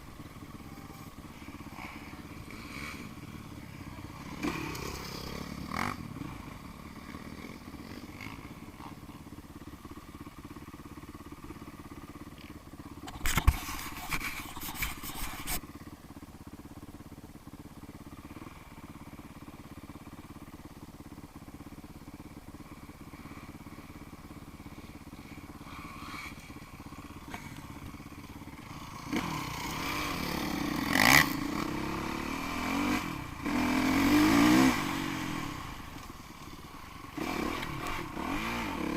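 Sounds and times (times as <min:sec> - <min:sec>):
motorcycle engine revving: 0:00.0 - 0:14.2, 0:16.8 - 0:38.9
motorcycle engines running: 0:00.0 - 0:38.9.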